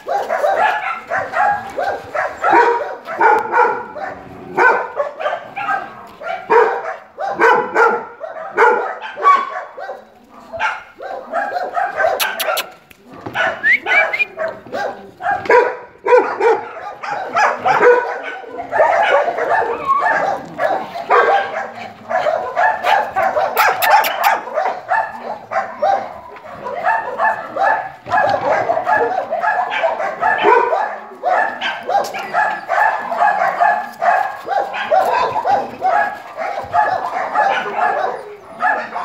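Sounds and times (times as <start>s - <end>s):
dogs barking and yapping: 0.0s - 39.0s.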